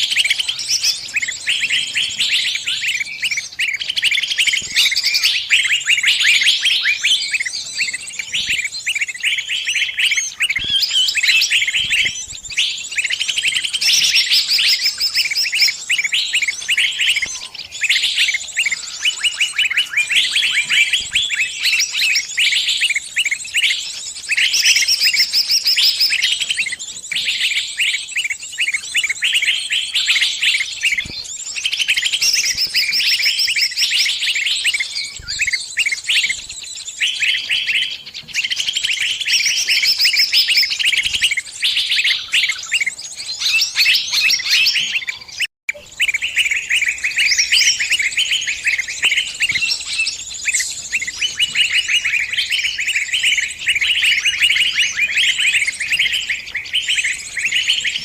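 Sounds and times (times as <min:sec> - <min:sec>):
small birds chirping rapidly: 0:00.0 - 0:58.0.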